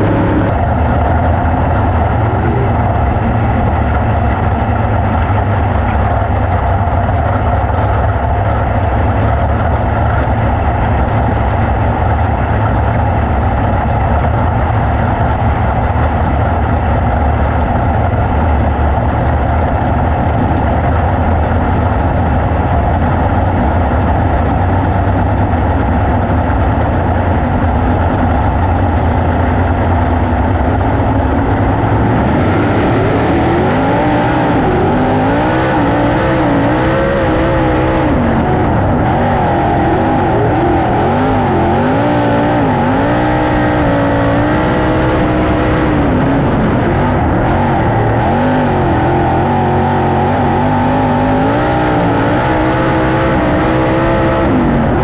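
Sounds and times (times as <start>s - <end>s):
other race car engines: 0.0s - 55.0s
race car engine running: 0.0s - 55.0s.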